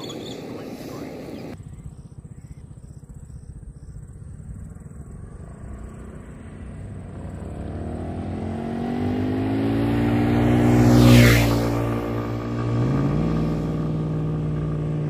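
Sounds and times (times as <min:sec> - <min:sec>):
motor scooter approaching: 0:00.0 - 0:15.0.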